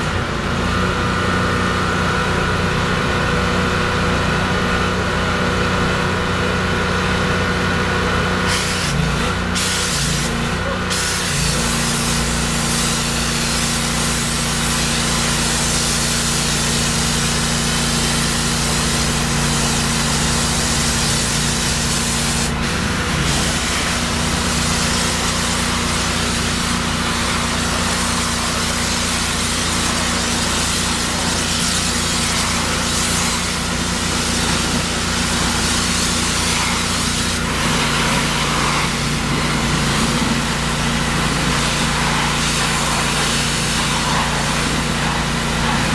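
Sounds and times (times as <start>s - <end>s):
engine hum: 0.0s - 45.9s
pressure washer spray hissing: 8.4s - 45.9s.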